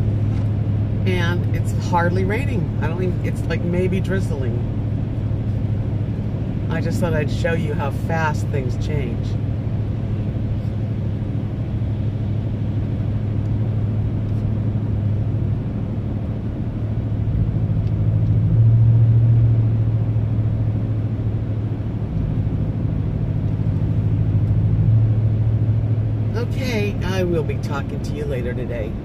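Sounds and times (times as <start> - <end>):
car engine drone: 0.0 - 29.0
road noise: 0.0 - 29.0.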